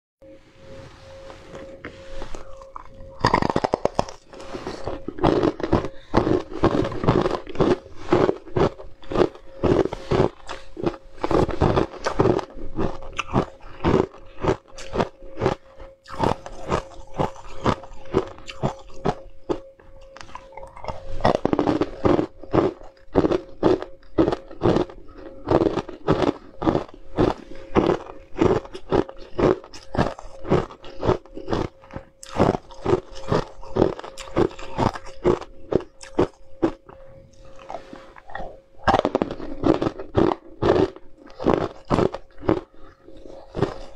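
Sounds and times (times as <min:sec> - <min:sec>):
ice cubes crunching: 0:01.2 - 0:43.9.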